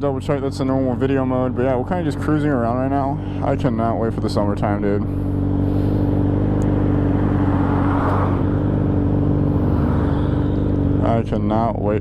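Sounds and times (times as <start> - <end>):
motorcycle engine running steadily: 0.0 - 12.0
road noise: 0.0 - 12.0.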